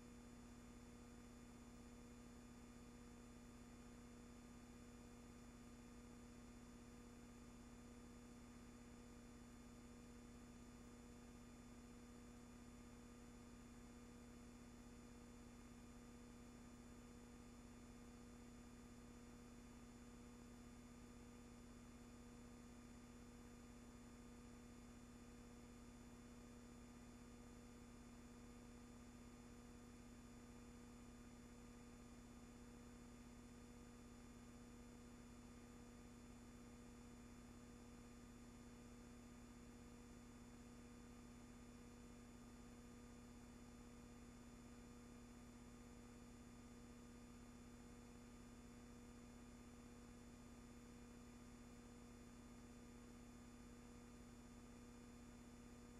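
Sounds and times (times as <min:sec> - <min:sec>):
faint steady hum and hiss: 0:00.0 - 0:55.9.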